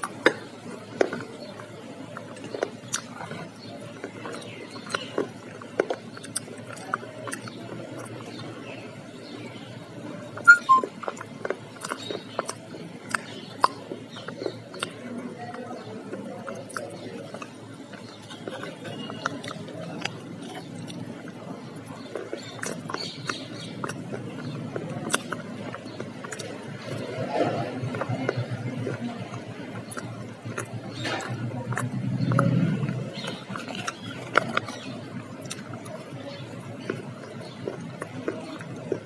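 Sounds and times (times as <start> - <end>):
chewing crunchy food: 0.0 - 39.0
mouth clicks: 0.0 - 39.0.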